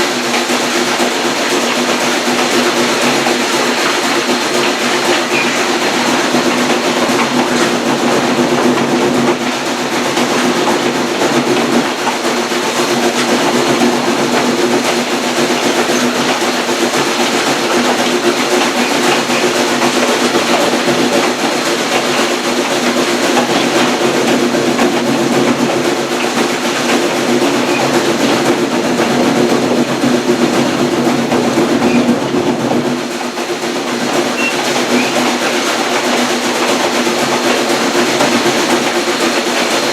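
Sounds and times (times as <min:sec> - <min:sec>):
train rolling on track: 0:00.0 - 0:39.9.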